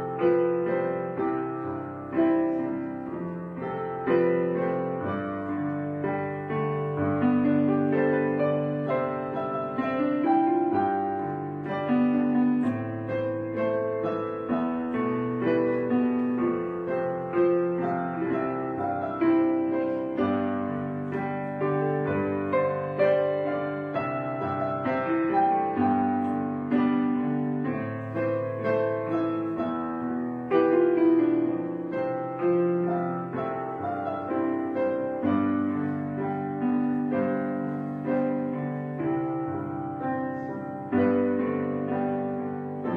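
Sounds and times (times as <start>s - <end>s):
piano music: 0.0s - 42.9s.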